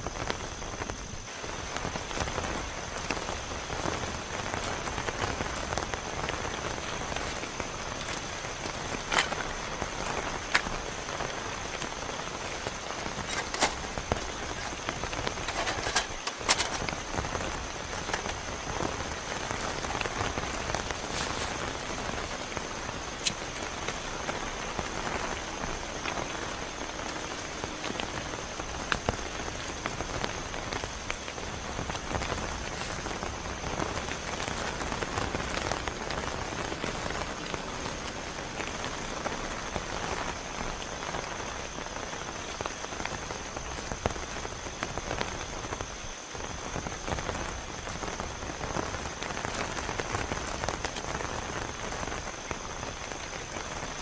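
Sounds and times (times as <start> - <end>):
heavy rain falling: 0.0 - 54.0
sharp raindrop impacts: 0.0 - 54.0.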